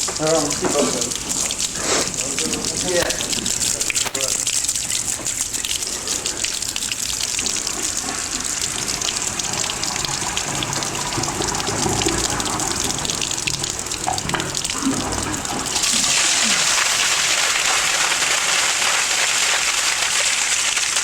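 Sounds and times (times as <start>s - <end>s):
toilet flushing: 0.0s - 21.0s.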